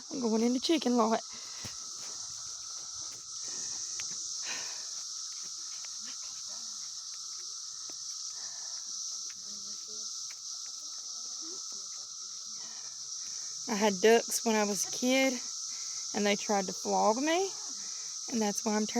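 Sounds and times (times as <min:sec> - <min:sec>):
insect chorus drone: 0:00.0 - 0:18.9.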